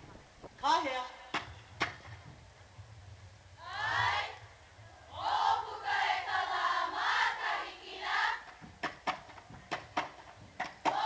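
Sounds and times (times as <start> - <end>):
low steady rumble: 0.0 - 10.6.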